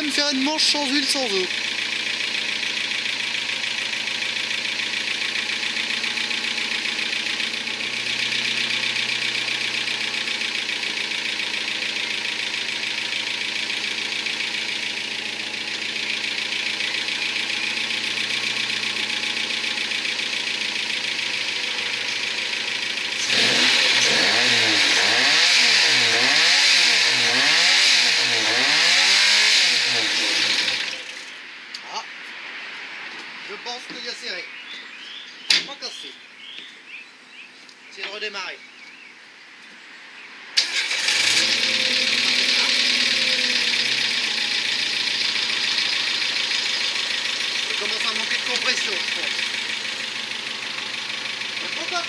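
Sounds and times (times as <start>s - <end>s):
knocking car engine revving: 0.0s - 31.4s, 40.6s - 52.0s.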